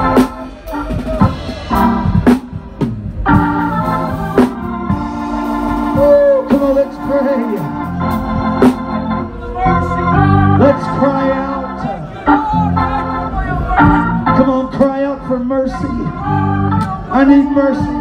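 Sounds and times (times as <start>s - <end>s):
organ playing held chords: 0.0s - 18.0s.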